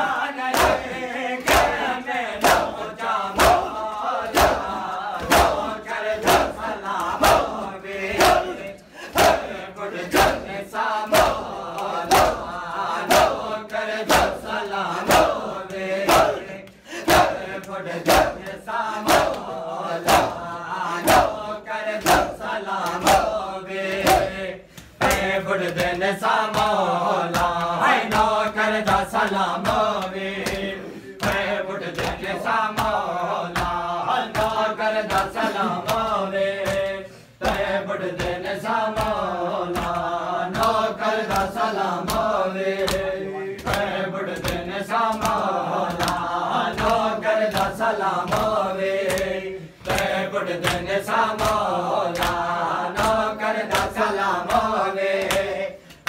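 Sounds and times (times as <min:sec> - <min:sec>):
men chanting a lament: 0:00.0 - 0:56.0.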